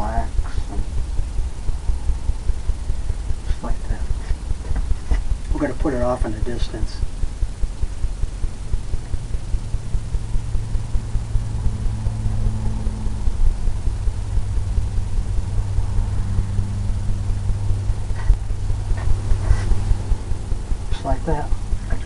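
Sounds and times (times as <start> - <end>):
pulsing machine hum: 0.0 - 22.0.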